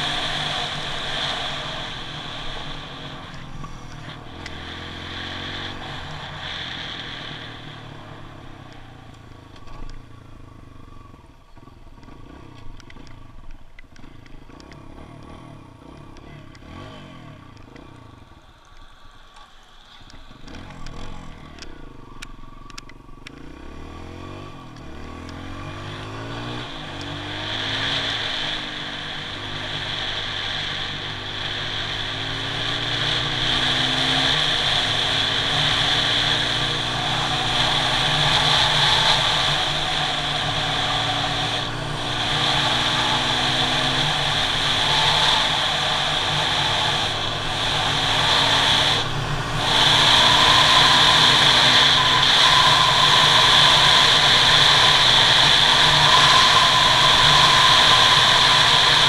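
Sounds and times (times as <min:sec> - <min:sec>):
motorcycle engine shifting gears: 0:00.0 - 0:59.0.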